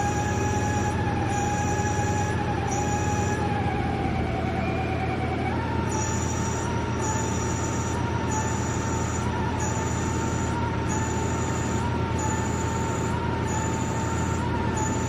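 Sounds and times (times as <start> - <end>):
higher whine of tool feeding: 0.0 - 15.0
lathe spindle hum and whine: 0.0 - 15.0.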